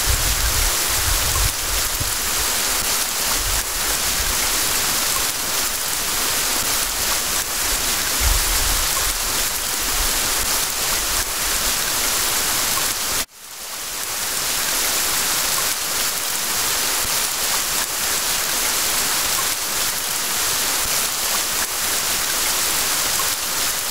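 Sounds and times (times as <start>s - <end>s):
heavy rain hissing: 0.0s - 23.9s.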